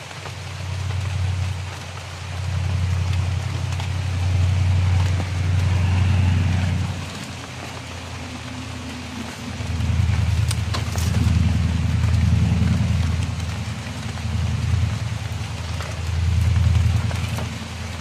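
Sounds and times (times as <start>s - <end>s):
rain hiss: 0.0s - 18.0s
low rumble: 0.5s - 18.0s.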